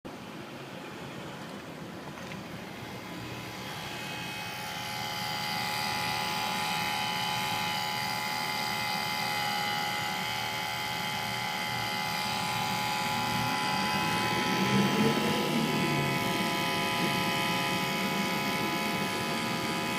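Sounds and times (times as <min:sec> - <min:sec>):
electric pump motor whining: 0:01.2 - 0:19.9.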